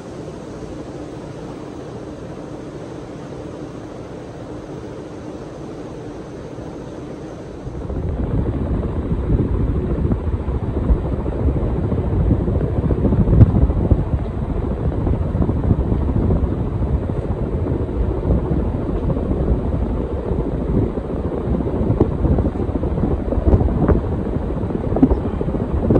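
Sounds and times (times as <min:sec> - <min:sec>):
ceiling fan running: 0:00.0 - 0:25.9
fan airflow buffeting microphone: 0:00.0 - 0:25.9.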